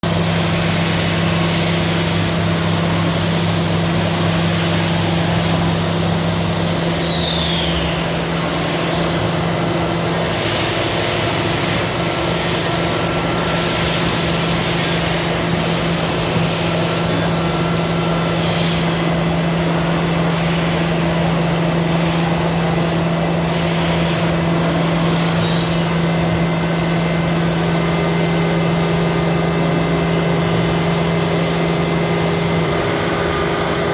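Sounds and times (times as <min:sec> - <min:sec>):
cnc machine low hum and rushing: 0:00.0 - 0:33.9
machine high whine: 0:00.0 - 0:33.9.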